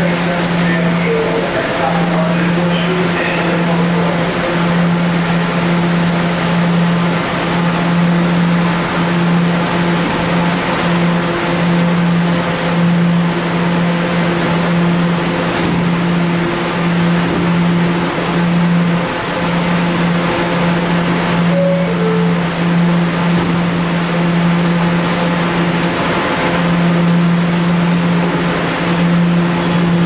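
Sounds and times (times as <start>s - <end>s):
loud electric hum: 0.0s - 30.0s.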